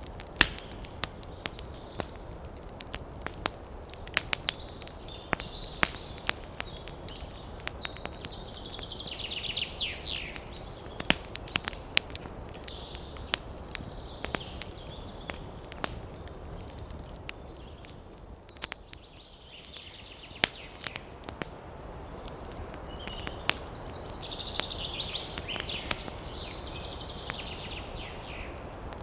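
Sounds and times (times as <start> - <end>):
campfire crackling and popping: 0.0 - 29.0
small birds chirping: 0.1 - 29.0.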